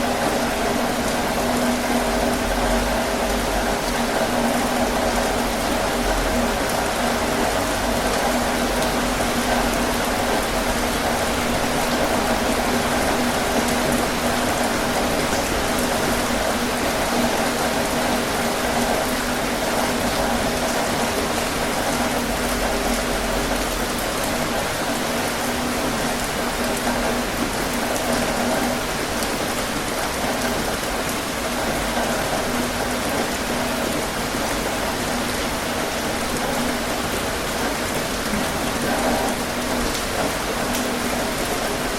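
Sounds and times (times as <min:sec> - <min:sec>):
heavy rain on a tin roof: 0:00.0 - 0:41.9.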